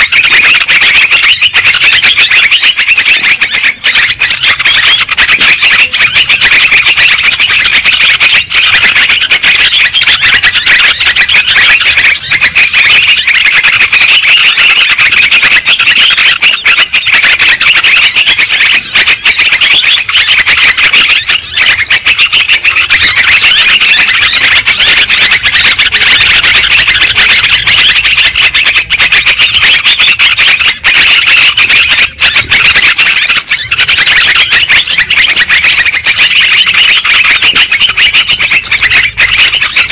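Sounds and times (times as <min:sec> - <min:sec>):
many birds chattering: 0:00.0 - 0:39.9.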